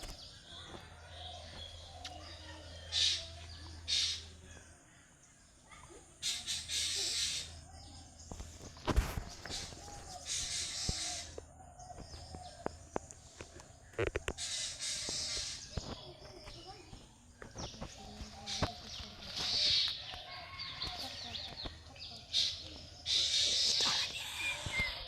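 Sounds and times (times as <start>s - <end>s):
birds chirping and calling: 0.0s - 25.0s.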